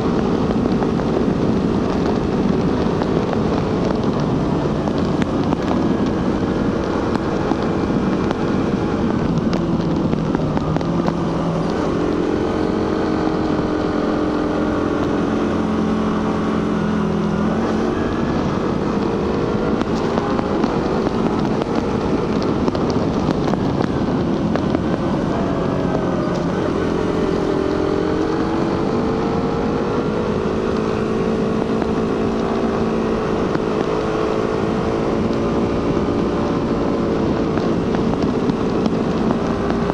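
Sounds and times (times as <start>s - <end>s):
motorcycle engine revving: 0.0s - 39.9s
wind on the microphone: 0.0s - 39.9s.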